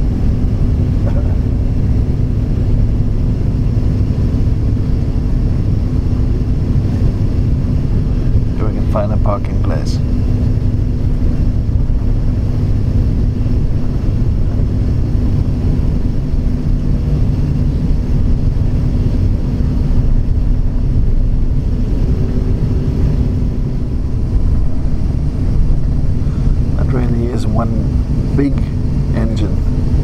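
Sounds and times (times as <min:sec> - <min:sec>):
airliner cabin rumble: 0:00.0 - 0:30.0
constant low hum: 0:00.0 - 0:30.0.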